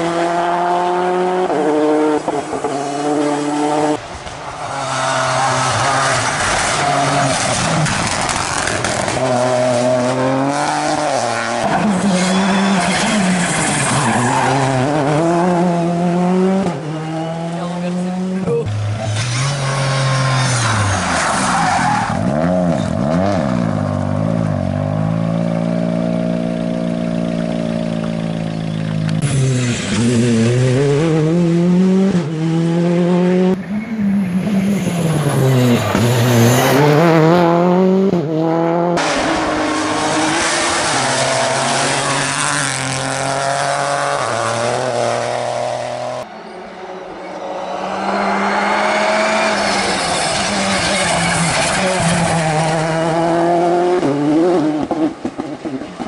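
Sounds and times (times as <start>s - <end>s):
rally car engines revving hard: 0.0s - 46.3s, 47.0s - 56.0s.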